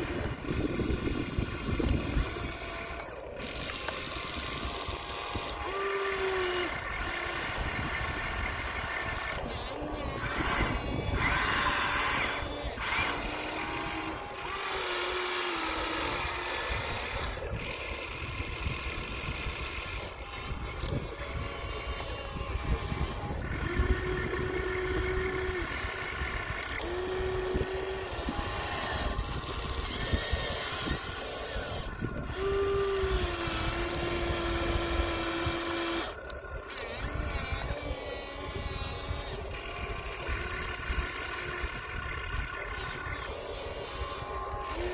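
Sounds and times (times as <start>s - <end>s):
small electric motors whining: 0.0s - 44.9s.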